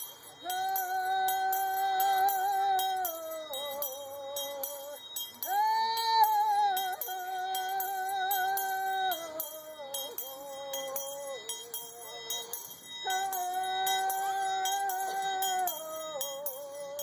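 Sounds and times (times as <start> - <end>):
handbell shaken: 0.0 - 17.0
woman singing long notes: 0.0 - 17.0.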